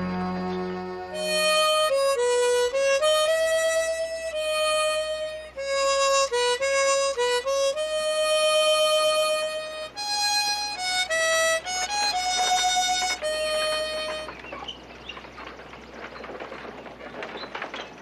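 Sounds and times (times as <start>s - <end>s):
harmonica slow melody: 0.0s - 14.6s.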